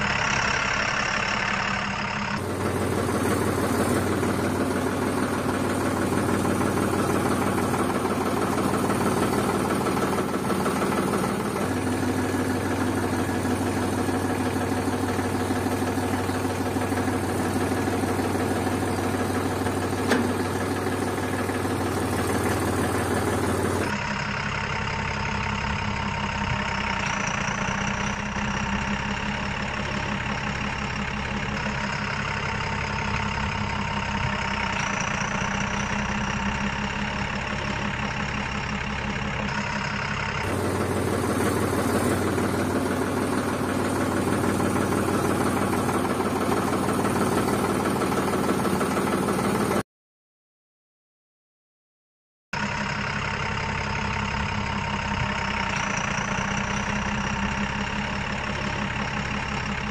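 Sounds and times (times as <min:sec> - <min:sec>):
diesel engine idling: 0:00.0 - 0:49.8, 0:52.6 - 0:59.9
engine idle with high whine: 0:00.0 - 0:49.8, 0:52.6 - 0:59.9.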